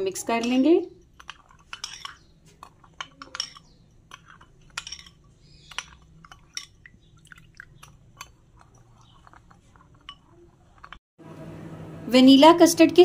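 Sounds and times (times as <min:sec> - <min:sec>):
metal spoon clinking in bowl: 0:00.2 - 0:11.0.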